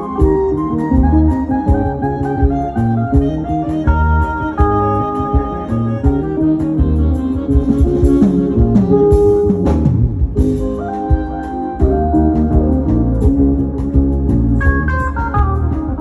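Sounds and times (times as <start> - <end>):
bass guitar: 0.0 - 16.0
drum kit steady beat: 0.0 - 16.0
horn notes: 0.0 - 16.0
keyboard notes: 0.0 - 16.0.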